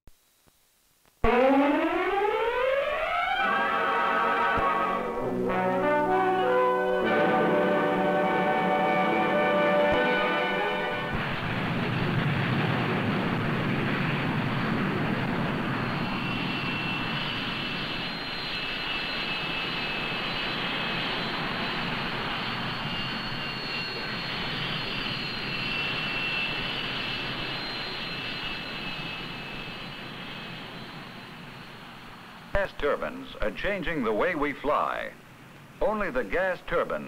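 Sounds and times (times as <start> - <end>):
jet engines with turbine whine: 1.2 - 35.8.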